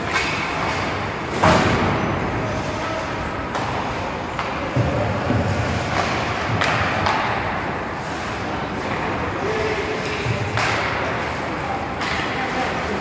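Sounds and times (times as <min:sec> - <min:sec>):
echoing arena noise: 0:00.0 - 0:13.0
hockey sticks and puck clacking: 0:00.0 - 0:13.0
skates on ice: 0:00.0 - 0:13.0.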